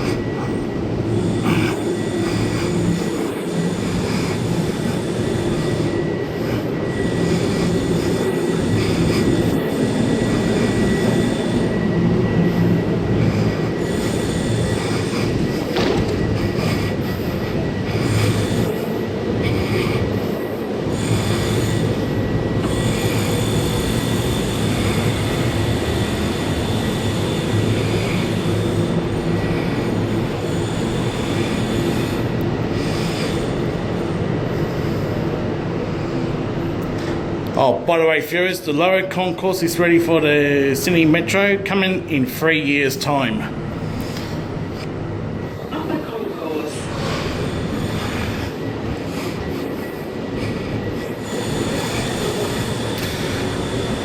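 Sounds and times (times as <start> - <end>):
train rumbling: 0.0 - 37.4, 43.4 - 54.0
high-pitched whine: 0.0 - 54.0.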